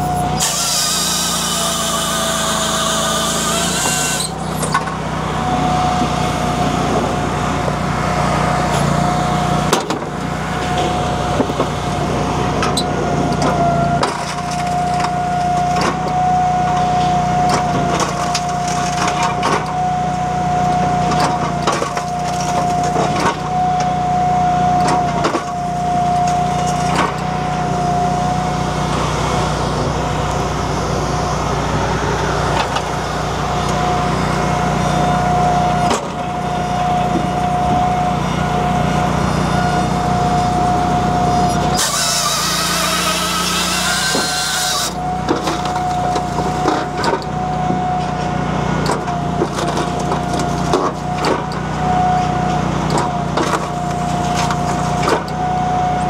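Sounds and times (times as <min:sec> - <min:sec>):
continuous machine whine: 0:00.0 - 0:56.0
engine running under load: 0:00.0 - 0:56.0.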